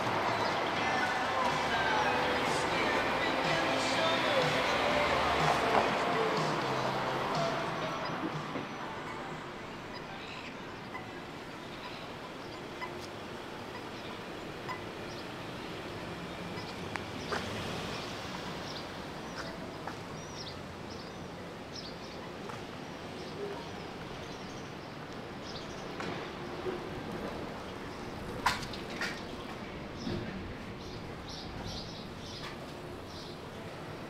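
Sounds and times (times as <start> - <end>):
small birds chirping: 0.0 - 34.0
street noise: 0.0 - 34.0.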